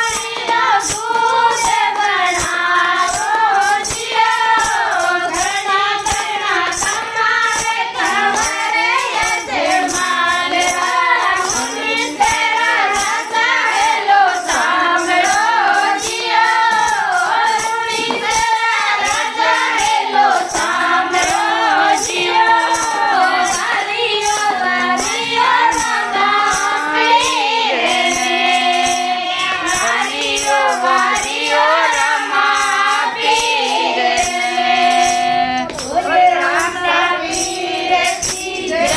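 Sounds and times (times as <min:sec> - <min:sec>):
hand claps: 0:00.0 - 0:38.9
women singing devotional song: 0:00.0 - 0:38.9.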